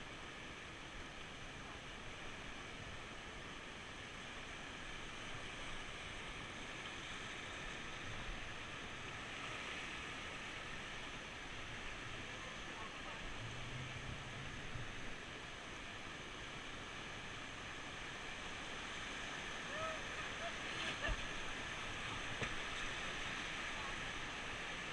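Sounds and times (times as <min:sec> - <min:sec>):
river rapids rushing: 0:00.0 - 0:24.9.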